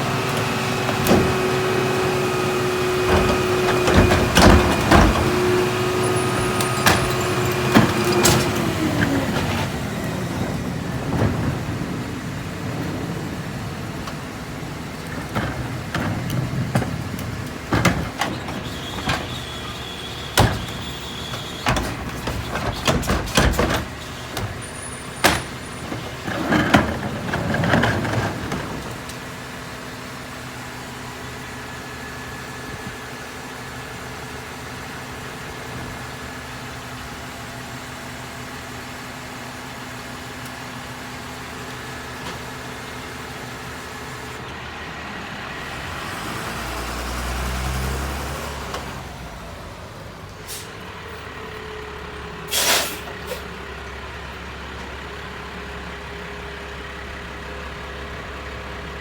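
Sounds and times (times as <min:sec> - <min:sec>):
garbage truck bangs and clatter: 0:00.0 - 0:51.5
garbage truck running: 0:00.0 - 0:59.0.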